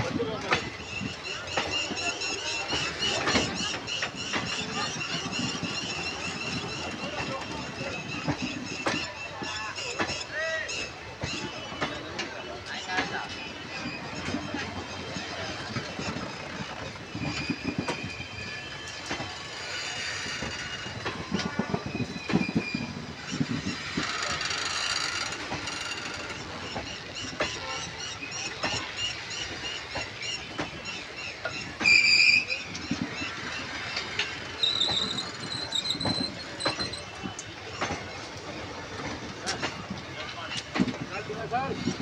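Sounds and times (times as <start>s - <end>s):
train wheels clattering over rail joints: 0.0s - 42.0s
high metallic squeals: 0.7s - 39.1s.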